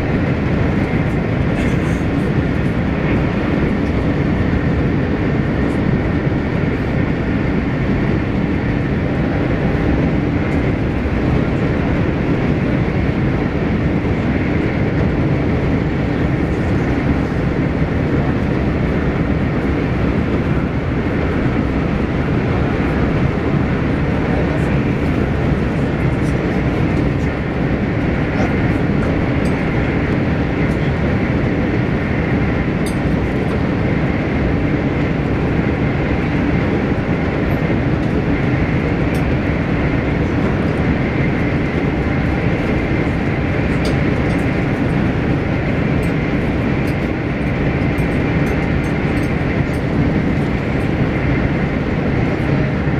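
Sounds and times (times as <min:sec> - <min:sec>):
high-speed train rumble inside: 0:00.0 - 0:52.9.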